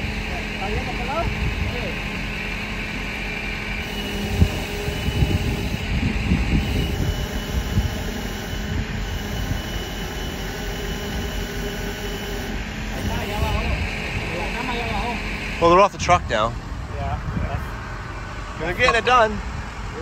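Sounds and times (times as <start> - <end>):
truck engine humming: 0.0 - 20.0.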